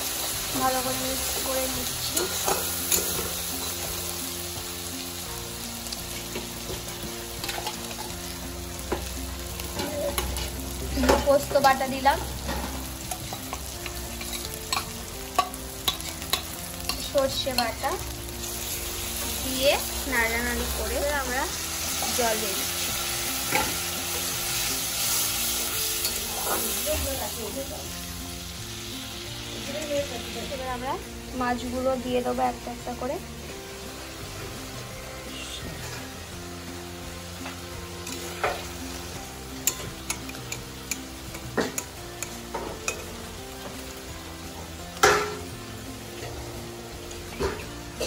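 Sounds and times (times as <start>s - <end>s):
soft background music: 0.0s - 48.0s
spice paste sizzling in oil: 0.0s - 48.0s.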